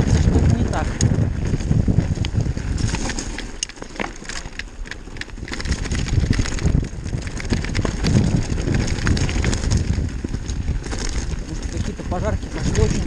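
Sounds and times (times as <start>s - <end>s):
bike rattling over rocks: 0.0s - 13.0s
wind rumble on microphone: 0.0s - 13.0s.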